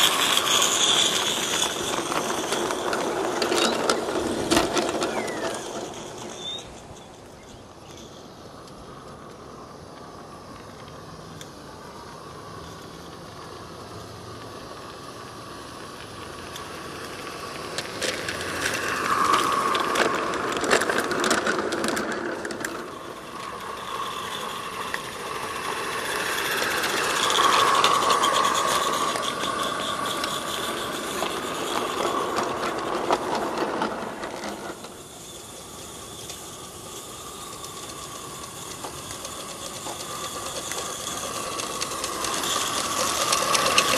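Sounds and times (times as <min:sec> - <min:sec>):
steam hissing: 0:00.0 - 0:43.9
train wheels clicking and rattling: 0:00.0 - 0:43.9.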